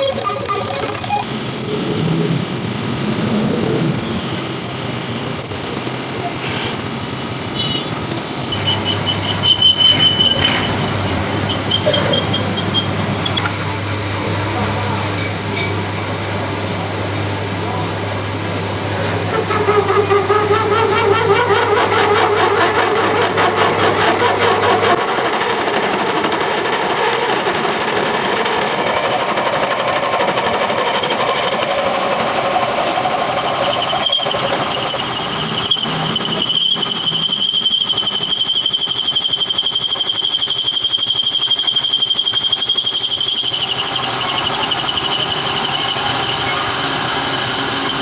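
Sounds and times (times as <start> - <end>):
high-pitched cutting squeal: 0.0 - 16.2, 19.0 - 26.4, 28.6 - 48.0
metal lathe chattering: 0.0 - 48.0.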